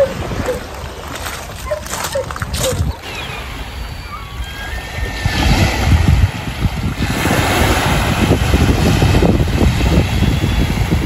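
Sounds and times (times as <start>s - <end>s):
small waves breaking on shore: 0.0s - 11.0s
wind buffeting microphone: 0.0s - 11.0s.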